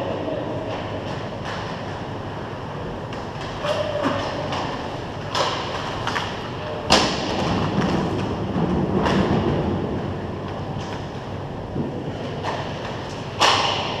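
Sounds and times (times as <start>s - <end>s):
skates rumbling on ice rink: 0.0s - 14.0s
hockey sticks and puck clacking: 0.1s - 2.0s, 3.1s - 9.7s, 10.4s - 14.0s.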